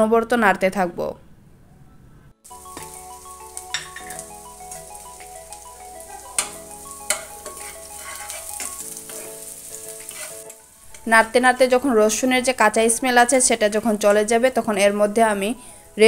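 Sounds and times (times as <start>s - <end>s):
soft background music: 2.4s - 16.0s
garlic sizzling in oil: 2.5s - 16.0s.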